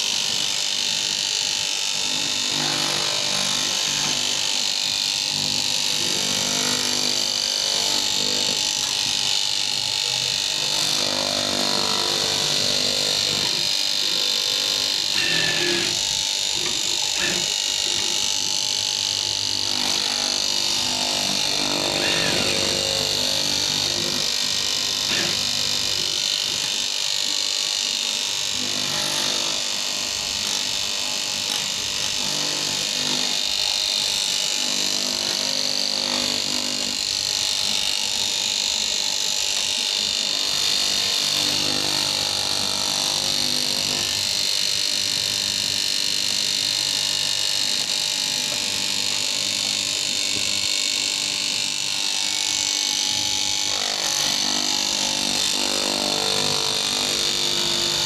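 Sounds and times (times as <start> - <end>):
cloth-cutting machine running: 0.0 - 58.0.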